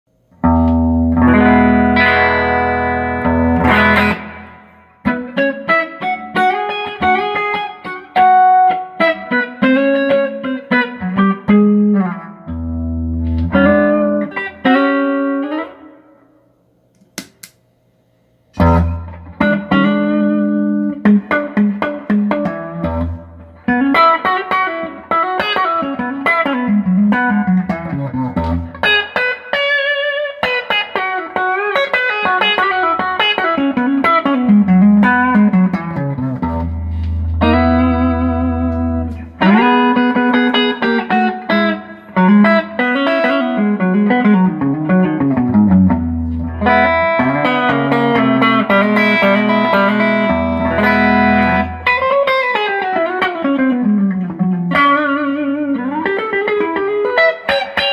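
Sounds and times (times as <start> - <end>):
electric guitar playing: 0.2 - 16.5, 18.5 - 57.9.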